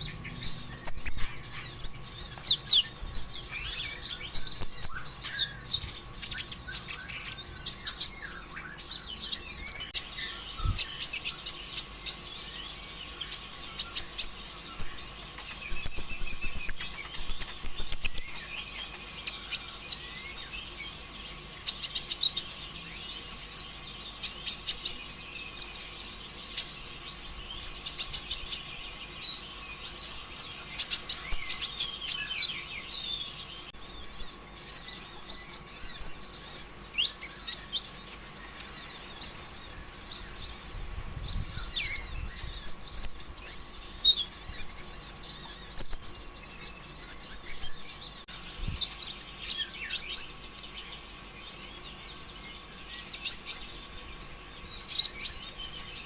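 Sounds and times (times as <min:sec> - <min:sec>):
bird singing high chirps and trills: 0:00.0 - 0:56.0.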